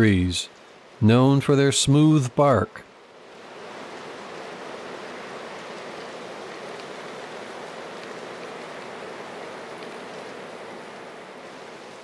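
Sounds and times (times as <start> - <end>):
forest ambience hiss: 0.0 - 12.0.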